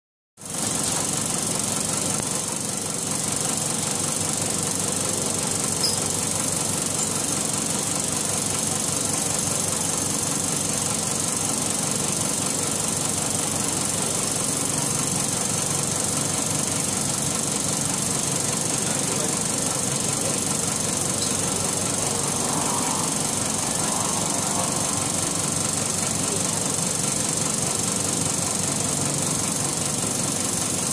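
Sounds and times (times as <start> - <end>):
exhaust fan running: 0.4 - 30.9.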